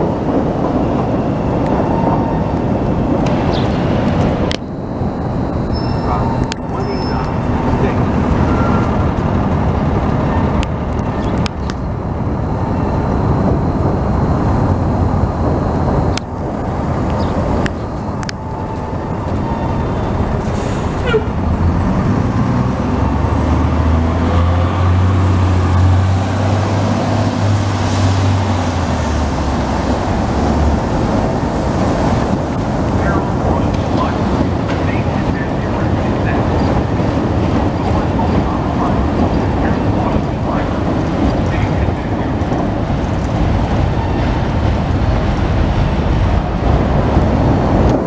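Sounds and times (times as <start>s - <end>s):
elevated train running: 0.0s - 48.0s
street traffic din: 0.0s - 48.0s
low drone: 2.5s - 48.0s.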